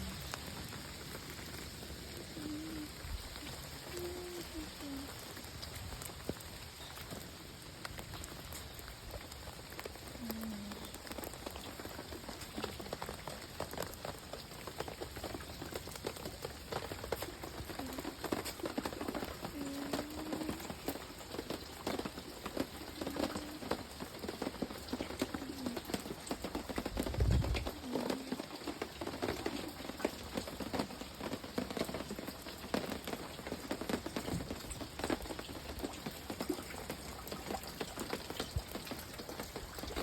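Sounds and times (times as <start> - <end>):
rain pattering: 0.0 - 40.0.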